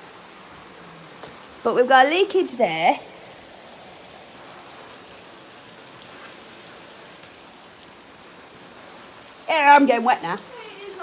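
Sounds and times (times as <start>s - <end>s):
sprinkler spraying water: 0.0s - 11.0s.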